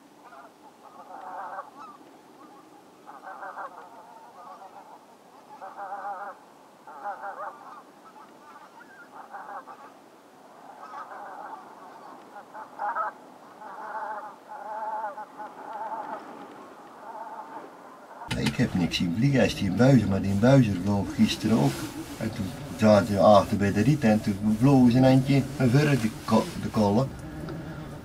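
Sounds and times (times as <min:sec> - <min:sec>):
geese honking: 0:00.2 - 0:28.0.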